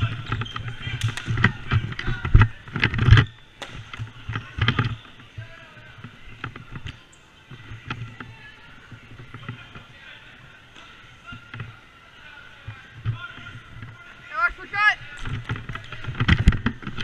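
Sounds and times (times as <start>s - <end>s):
lacrosse sticks and ball clacking: 0.0s - 17.0s.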